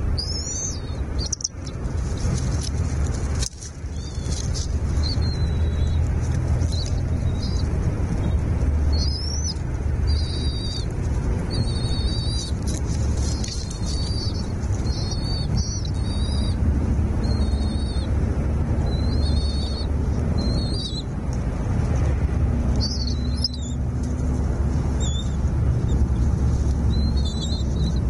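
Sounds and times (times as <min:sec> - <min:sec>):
songbird chirping: 0:00.0 - 0:18.2, 0:18.8 - 0:21.2, 0:22.7 - 0:28.0
steady low rumble: 0:00.0 - 0:28.0.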